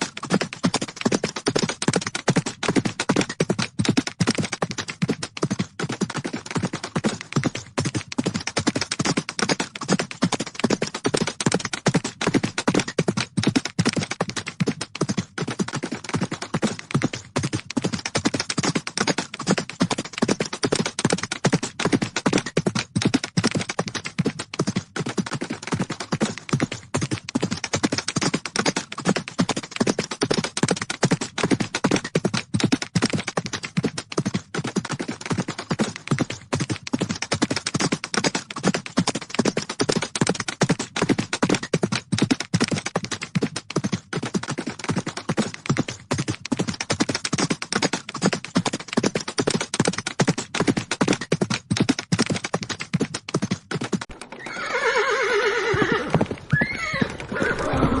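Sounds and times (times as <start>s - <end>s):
galloping horse hooves: 0.0s - 58.0s.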